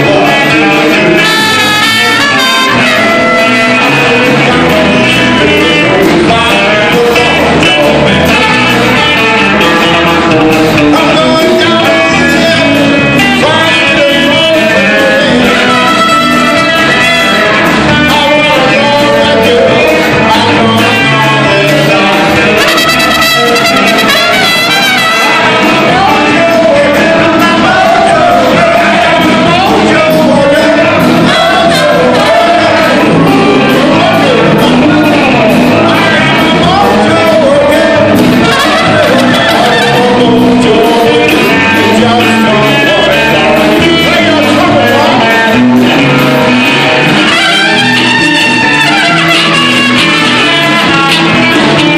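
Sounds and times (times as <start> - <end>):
trumpet: 0.0 - 6.6, 7.2 - 43.1, 43.8 - 51.9
drums: 0.0 - 51.9
electric bass: 0.0 - 51.9
electric guitar: 0.0 - 51.9
person singing: 0.0 - 51.9.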